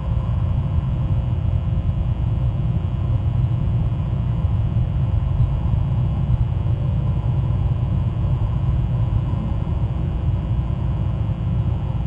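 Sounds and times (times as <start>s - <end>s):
faint hum tones: 0.0s - 12.0s
steady low rumble: 0.0s - 12.0s.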